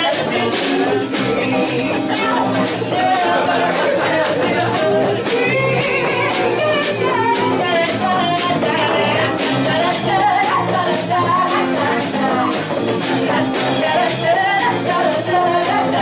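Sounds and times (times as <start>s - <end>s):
frame drum beat: 0.0s - 16.0s
strummed acoustic guitar: 0.0s - 16.0s
woman singing: 0.0s - 16.0s.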